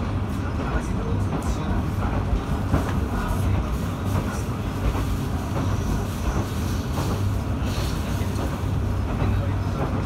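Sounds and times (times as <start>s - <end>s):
railcar engine and wheels drone: 0.0s - 10.0s.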